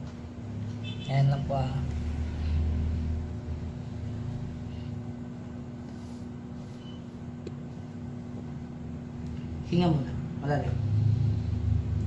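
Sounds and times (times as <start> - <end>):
low hum of room noise: 0.0 - 12.0.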